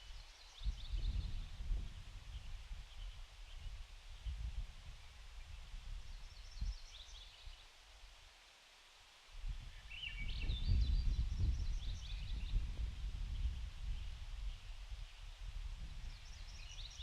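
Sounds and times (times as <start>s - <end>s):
wind gusting across microphone: 0.0s - 7.5s, 9.4s - 17.0s.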